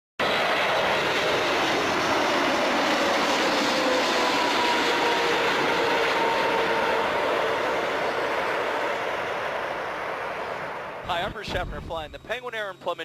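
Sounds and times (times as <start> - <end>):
jet engine roar: 0.2 - 13.0.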